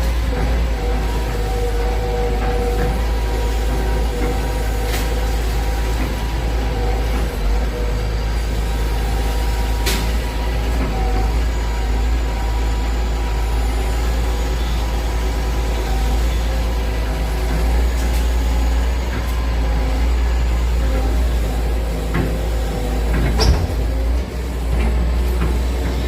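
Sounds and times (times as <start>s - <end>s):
excavator diesel engine droning: 0.0s - 26.0s.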